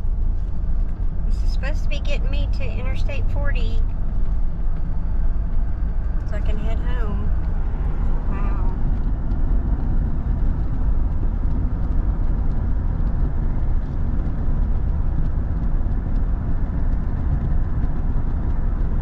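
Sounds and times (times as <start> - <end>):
car cabin road and engine noise: 0.0 - 19.0.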